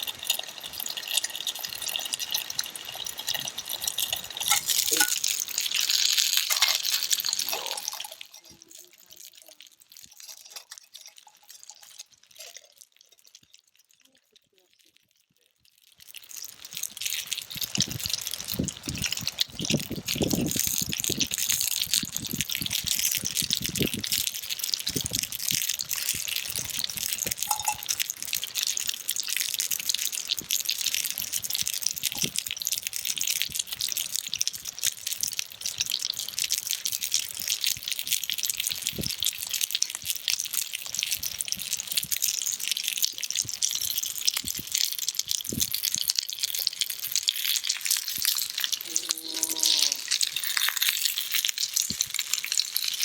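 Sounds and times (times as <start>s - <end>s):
dumplings sizzling in a frying pan: 0.0s - 53.0s.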